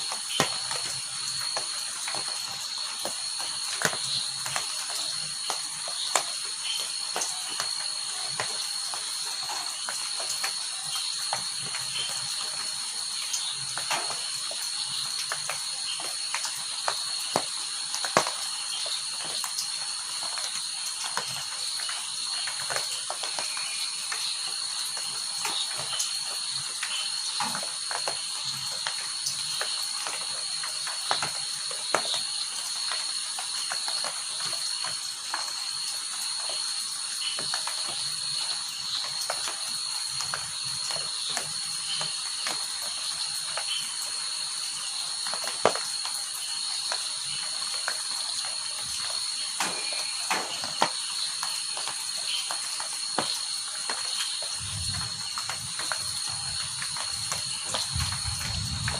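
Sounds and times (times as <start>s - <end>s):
rain drops ticking: 0.0s - 58.9s.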